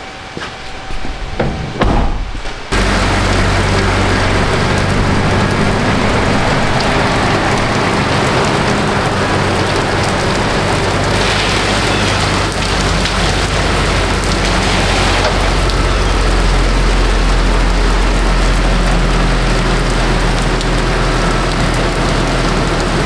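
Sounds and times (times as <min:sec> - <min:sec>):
vehicle engine humming: 0:00.0 - 0:23.0
heavy rain on pavement: 0:02.7 - 0:23.0.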